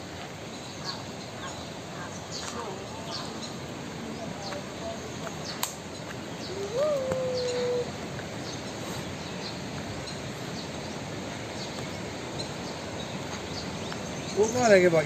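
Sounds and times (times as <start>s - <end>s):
outdoor background hiss: 0.0s - 15.0s
birds chirping: 0.2s - 15.0s.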